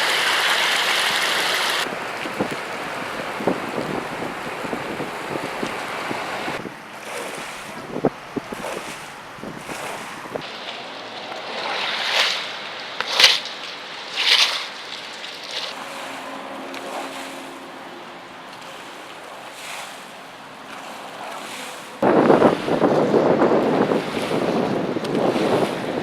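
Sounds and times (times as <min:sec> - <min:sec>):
loud water splashes: 0:00.0 - 0:26.0
tyres splashing through water: 0:00.0 - 0:26.0.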